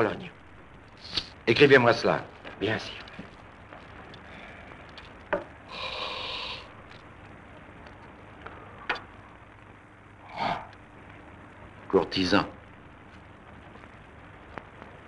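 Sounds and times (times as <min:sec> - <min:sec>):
film soundtrack hiss: 0:00.0 - 0:15.0.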